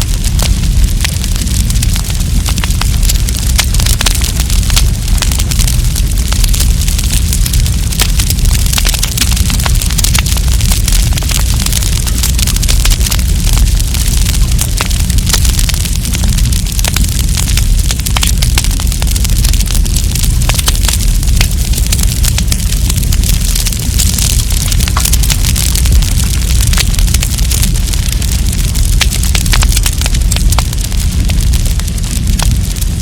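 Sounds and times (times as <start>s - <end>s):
campfire crackling and popping: 0.0s - 33.0s
fire rumbling and hissing: 0.0s - 33.0s.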